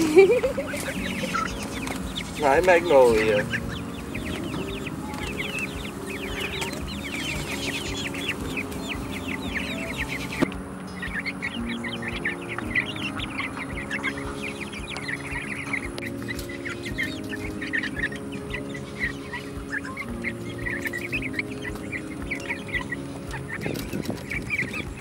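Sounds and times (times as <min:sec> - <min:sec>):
chicks peeping: 0:00.0 - 0:25.0
soft background music: 0:00.0 - 0:25.0.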